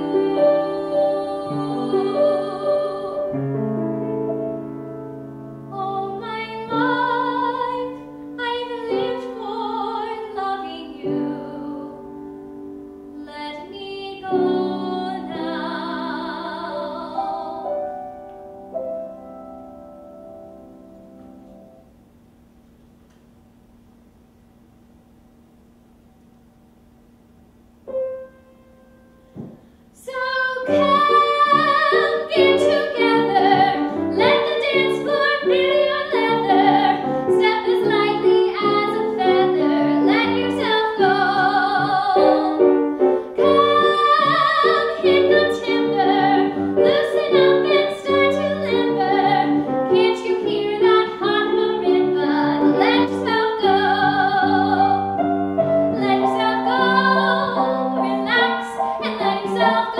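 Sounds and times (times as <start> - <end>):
piano: 0.0 - 59.9.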